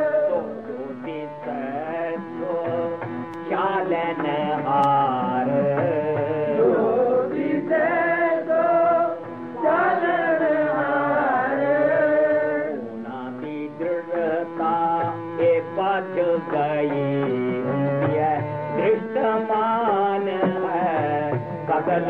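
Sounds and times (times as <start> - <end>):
instrumental accompaniment: 0.0 - 22.0
person singing hymn: 0.0 - 22.0.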